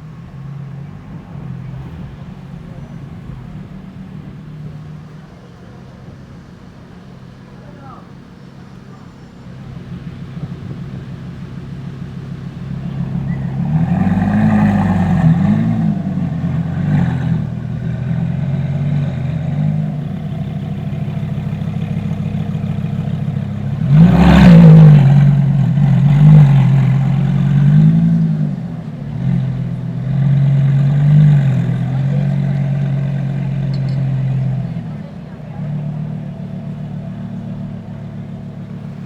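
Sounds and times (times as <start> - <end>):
engine throttle blips: 0.0 - 39.0
sports car engine idling loudly: 0.0 - 39.0.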